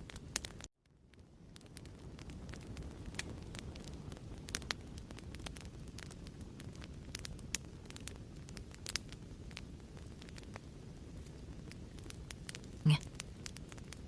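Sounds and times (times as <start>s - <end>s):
fireplace crackling: 0.0s - 14.0s.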